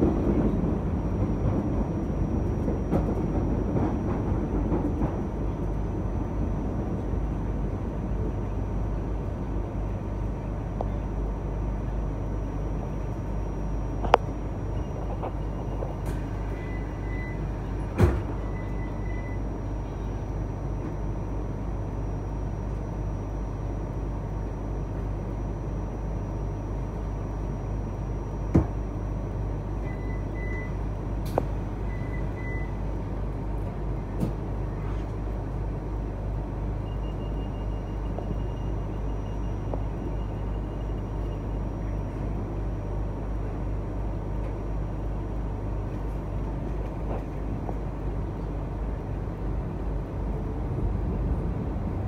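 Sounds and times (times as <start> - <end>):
light-rail car rumble: 0.0 - 52.0.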